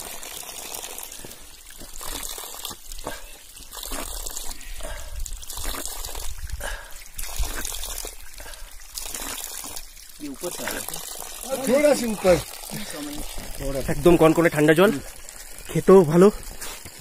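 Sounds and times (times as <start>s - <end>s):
water trickling down rock: 0.0s - 17.0s.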